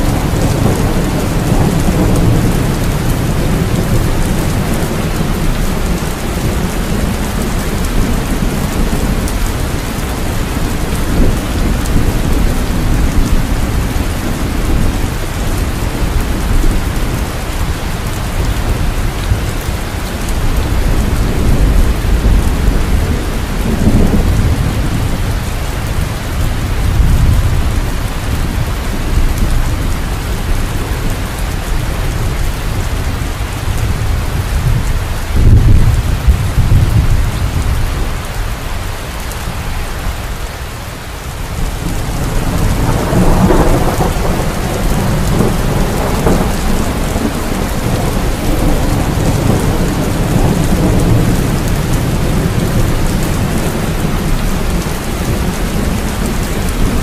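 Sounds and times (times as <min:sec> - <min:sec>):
rolling thunder: 0:00.0 - 0:38.4, 0:41.4 - 0:57.0
steady rain: 0:00.0 - 0:57.0.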